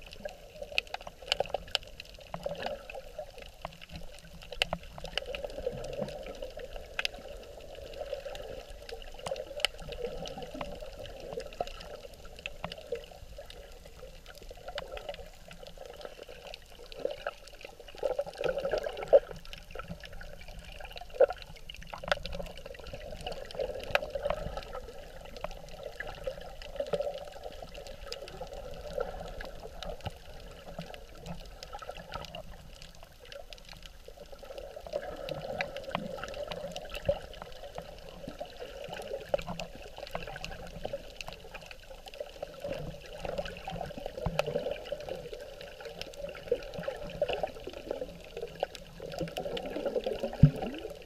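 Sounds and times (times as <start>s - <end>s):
muffled underwater water wash: 0.0s - 51.0s
sharp clicks underwater: 0.0s - 51.0s.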